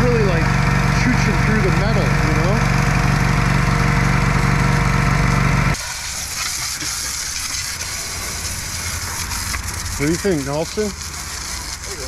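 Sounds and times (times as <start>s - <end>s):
small gas engine running: 0.0s - 12.0s.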